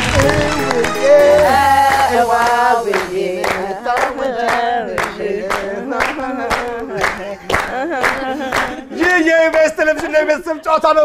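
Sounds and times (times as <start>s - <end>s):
hand claps: 0.0s - 2.2s, 3.4s - 10.2s
group of voices singing: 0.0s - 9.0s.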